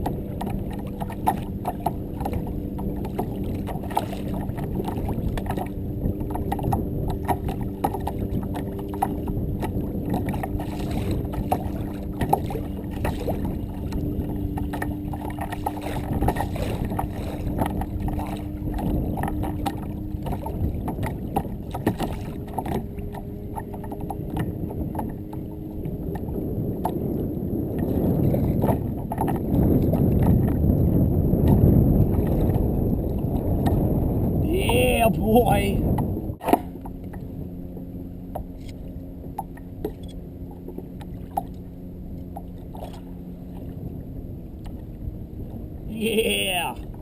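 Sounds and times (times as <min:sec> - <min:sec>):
low rumbling noise: 0:00.0 - 0:47.0
water and kayak hull noise: 0:00.0 - 0:47.0.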